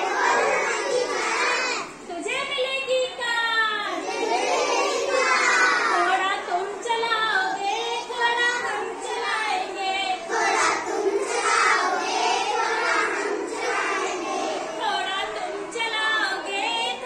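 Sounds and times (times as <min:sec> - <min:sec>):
children singing together: 0:00.0 - 0:02.0, 0:03.9 - 0:06.1, 0:07.4 - 0:17.0.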